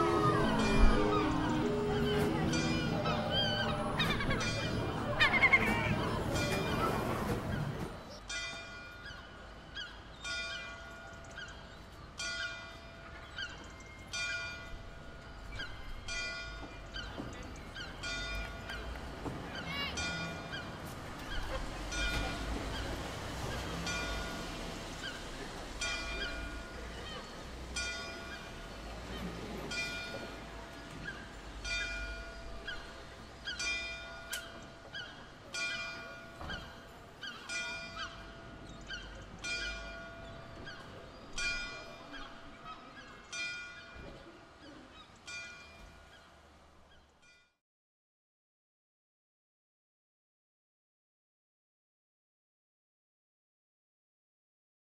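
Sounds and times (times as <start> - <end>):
bells ringing: 0.0 - 7.4, 8.1 - 44.4, 45.3 - 46.2.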